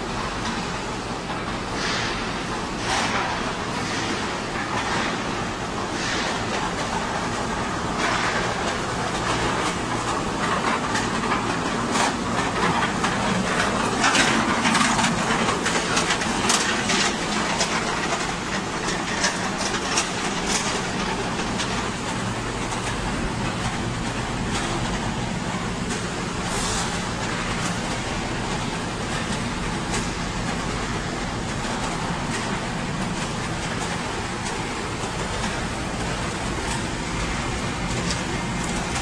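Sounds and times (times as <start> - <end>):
machinery running: 0.0 - 39.0.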